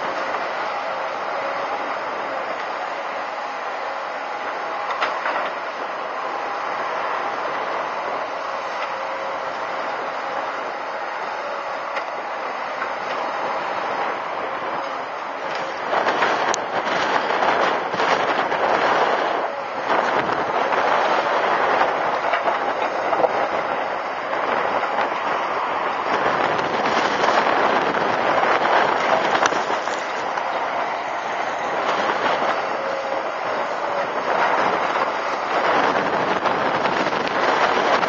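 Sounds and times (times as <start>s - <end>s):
excavator bucket scraping stony soil: 0.0s - 38.0s
excavator engine running: 0.0s - 38.0s
rattle of gravel: 4.4s - 11.0s, 12.8s - 38.0s.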